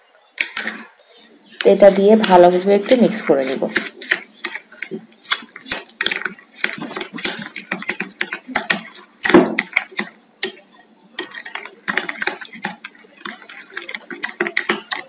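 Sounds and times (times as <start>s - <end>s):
metal spoon scraping glass bowl: 1.7s - 15.0s.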